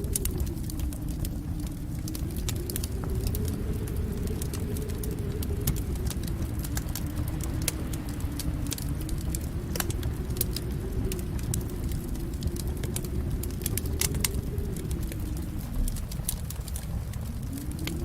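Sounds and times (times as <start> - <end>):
fire crackling and popping: 0.0 - 18.0
low rumble of fire: 0.0 - 18.0.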